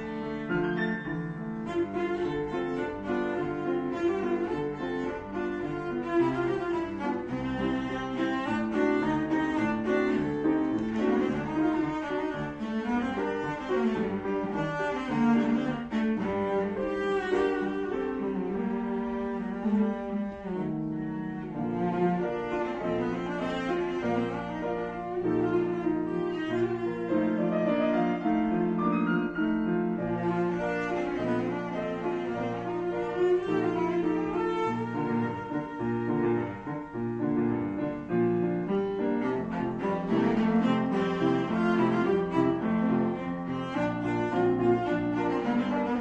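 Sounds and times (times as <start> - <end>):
bowed cello: 0.0 - 46.0
grand piano: 0.0 - 46.0.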